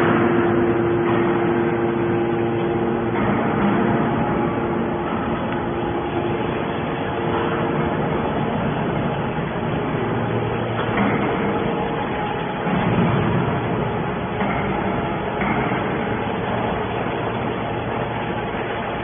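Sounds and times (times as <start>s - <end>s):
hydraulic baler running: 0.0s - 19.0s.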